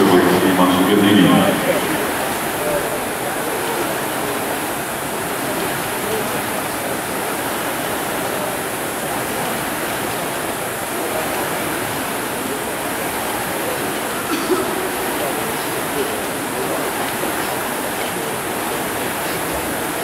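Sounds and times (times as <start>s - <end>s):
rowing machine fans whirring: 0.0s - 20.0s.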